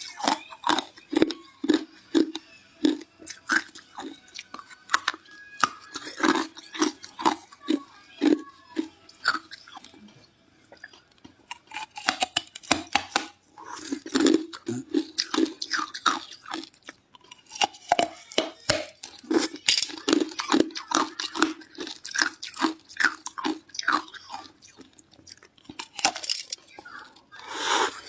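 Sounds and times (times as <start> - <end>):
ice being crunched and chewed: 0.0 - 28.0.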